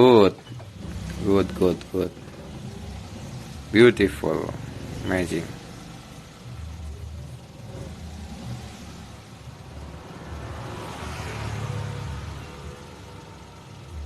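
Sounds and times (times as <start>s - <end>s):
car engine at low revs: 0.0s - 14.0s.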